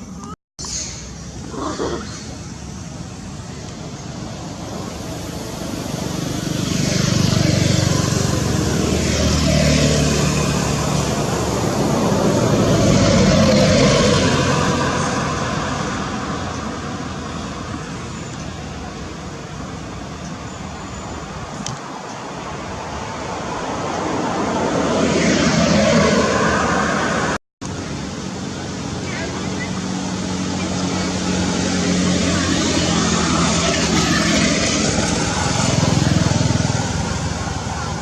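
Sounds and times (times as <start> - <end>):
vehicles passing by: 0.0 - 38.0.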